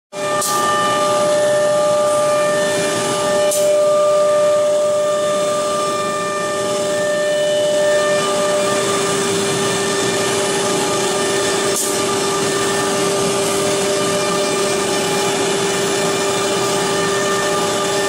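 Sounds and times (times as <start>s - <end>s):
wood router spindle whine: 0.2s - 18.0s.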